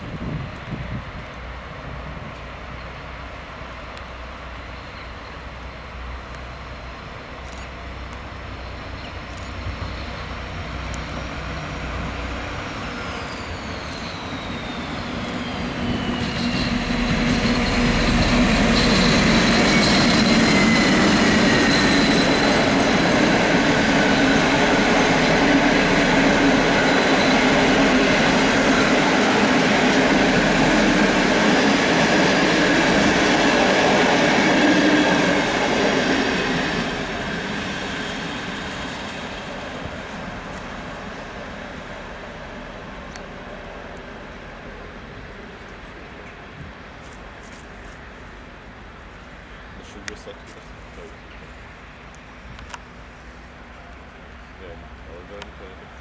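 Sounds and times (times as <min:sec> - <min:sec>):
diesel locomotive passing: 0:00.0 - 0:56.0
train wheels on rails: 0:00.0 - 0:56.0.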